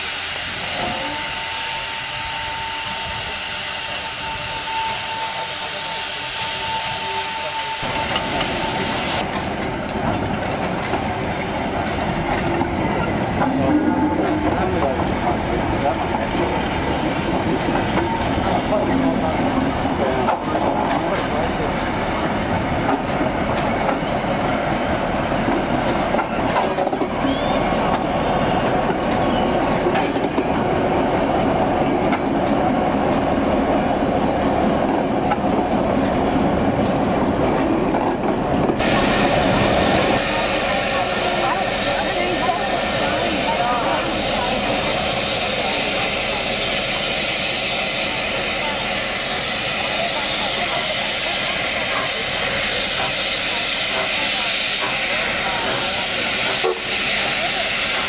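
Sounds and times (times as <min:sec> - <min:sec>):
diesel locomotive running: 0:00.0 - 0:58.0
goods train rumbling and rattling: 0:00.0 - 0:58.0.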